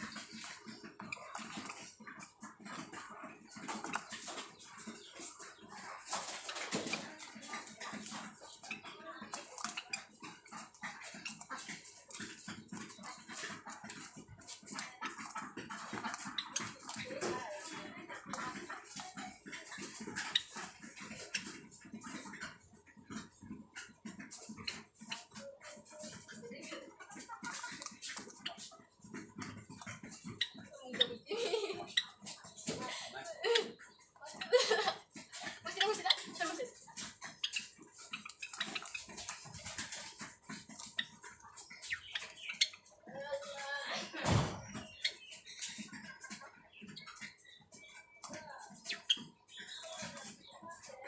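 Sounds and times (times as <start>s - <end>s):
birds pecking at plastic tub: 0.0s - 51.0s.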